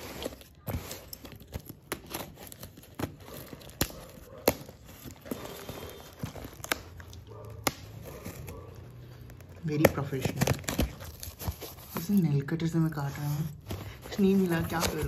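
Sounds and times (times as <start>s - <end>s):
cardboard parcel handled: 0.0s - 15.0s
tape and paper crinkling: 0.0s - 15.0s.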